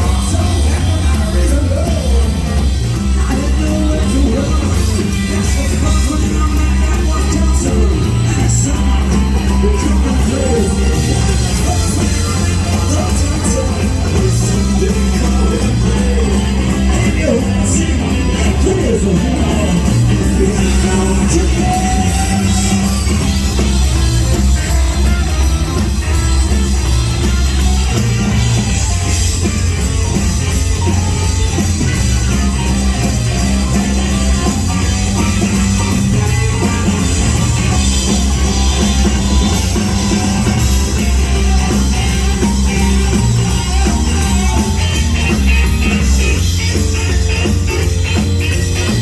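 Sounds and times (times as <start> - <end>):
bass line: 0.0 - 49.0
drum kit: 0.0 - 49.0
electric guitar: 0.0 - 49.0.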